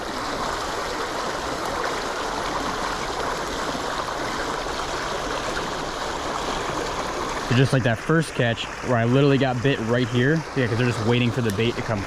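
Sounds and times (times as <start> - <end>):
water rushing through channel: 0.0 - 12.0.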